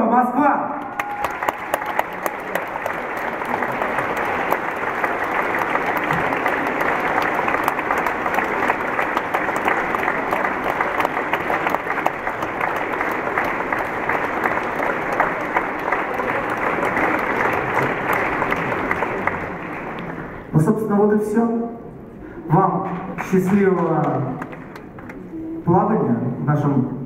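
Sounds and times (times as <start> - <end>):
theatre audience applause: 0.8 - 20.8, 22.6 - 25.3.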